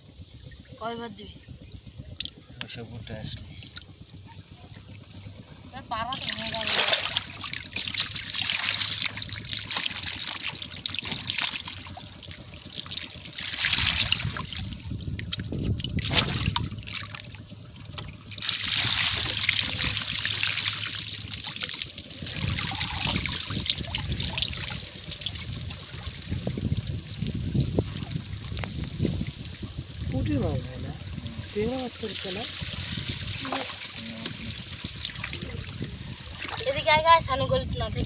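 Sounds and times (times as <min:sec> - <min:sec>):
shallow water splashing: 0:00.4 - 0:38.0.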